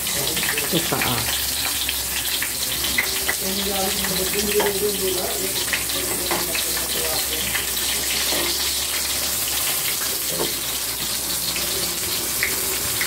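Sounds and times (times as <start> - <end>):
eggplant frying in hot oil: 0.0 - 13.0.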